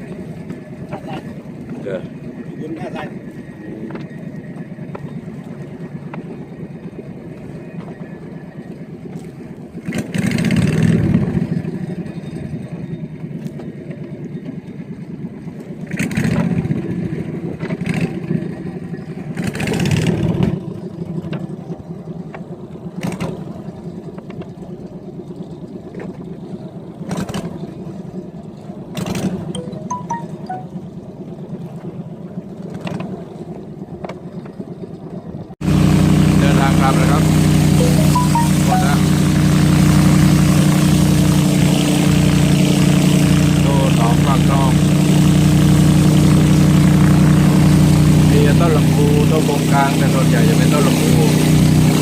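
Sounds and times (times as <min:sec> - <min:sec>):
small boat engine running: 0:00.0 - 0:52.0.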